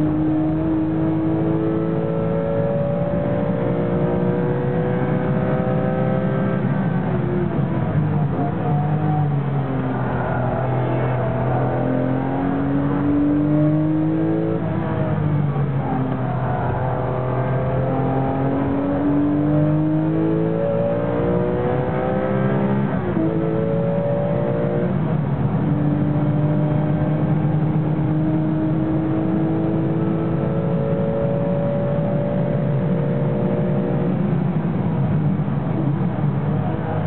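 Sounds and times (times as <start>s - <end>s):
race car engine accelerating: 0.0s - 37.0s.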